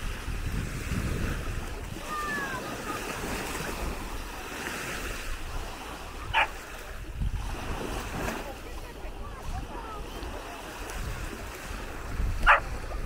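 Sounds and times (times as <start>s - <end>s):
waves breaking on sandy shore: 0.0s - 13.0s
wind buffeting microphone: 0.0s - 13.0s.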